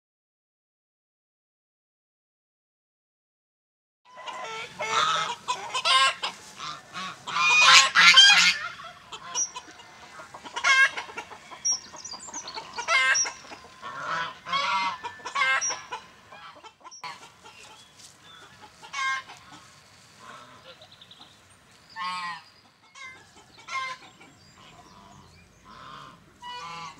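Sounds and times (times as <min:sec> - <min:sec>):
chickens calling: 0:04.1 - 0:26.9.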